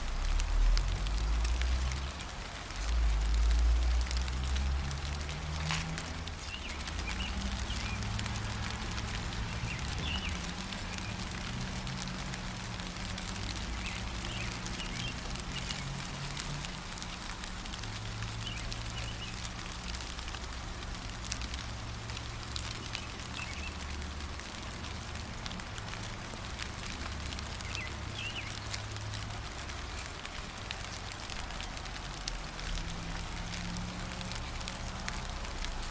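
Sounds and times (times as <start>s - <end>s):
rain pattering: 0.0s - 35.9s
small birds chirping: 1.1s - 20.4s, 21.3s - 35.9s.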